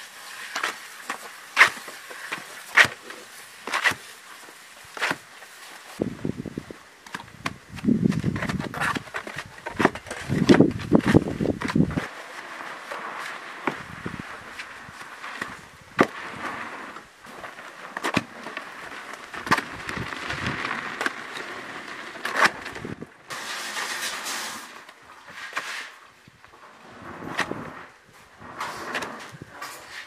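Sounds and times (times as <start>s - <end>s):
cement scraping and churning: 0.0s - 30.0s.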